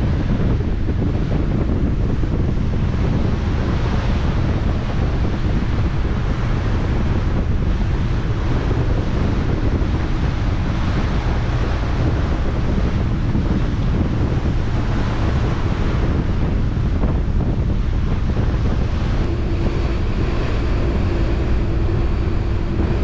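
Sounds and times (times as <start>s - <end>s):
rushing sea water: 0.0s - 23.0s
wind buffeting microphone: 0.0s - 23.0s.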